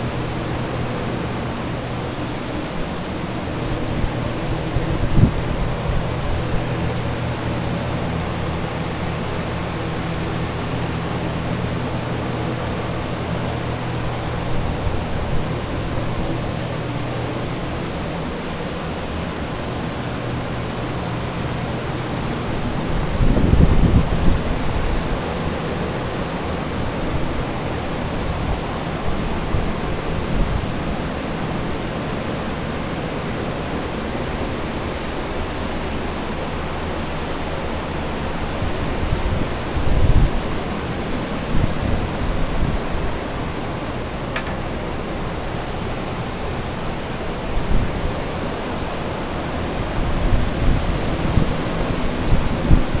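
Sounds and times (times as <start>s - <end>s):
drying fans rushing: 0.0s - 53.0s.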